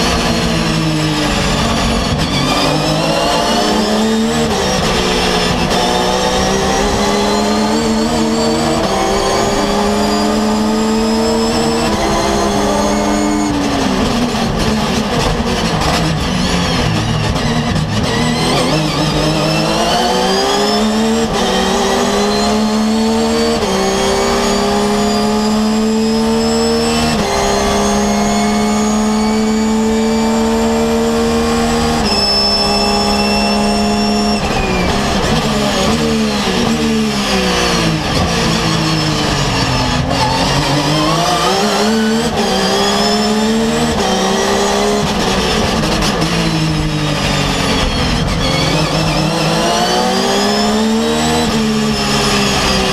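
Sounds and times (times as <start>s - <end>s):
race car engine revving: 0.0s - 52.9s.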